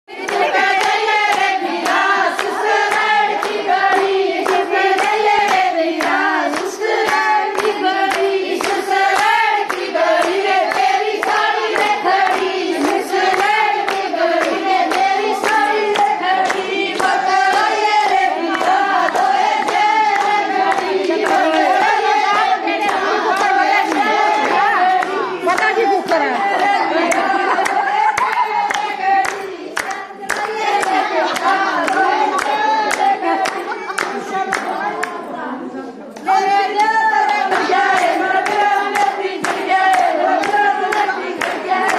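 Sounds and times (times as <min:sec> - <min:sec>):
group singing folk song: 0:00.1 - 0:41.9
rhythmic hand clapping: 0:00.1 - 0:41.9.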